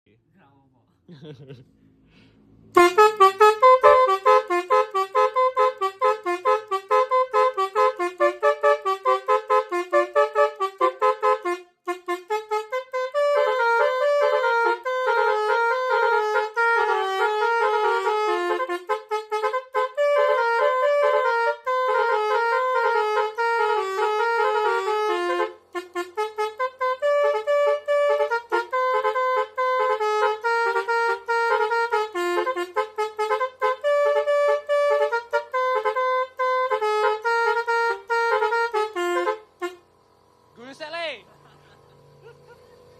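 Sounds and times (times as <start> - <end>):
multi-tone bus horn tune: 2.7 - 42.9.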